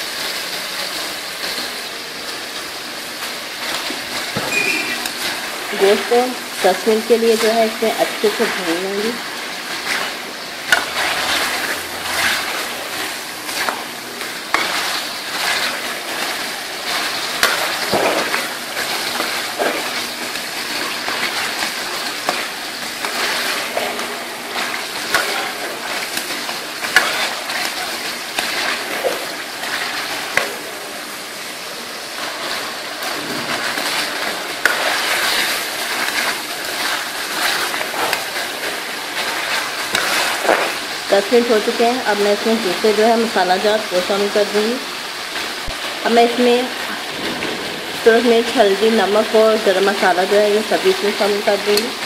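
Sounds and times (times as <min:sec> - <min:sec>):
meat sizzling in a pan: 0:00.0 - 0:52.0.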